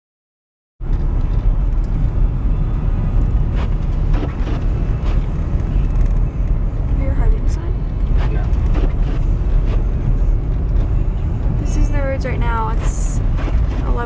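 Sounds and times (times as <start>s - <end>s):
car engine and road noise: 0.8s - 14.0s.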